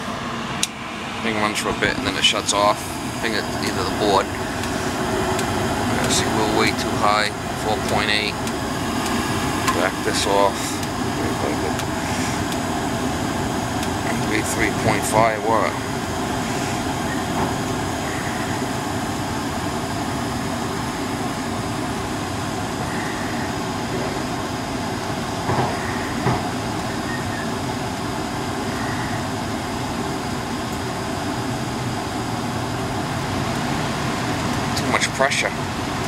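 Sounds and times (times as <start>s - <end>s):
furnace rumble and air rush: 0.0s - 36.0s.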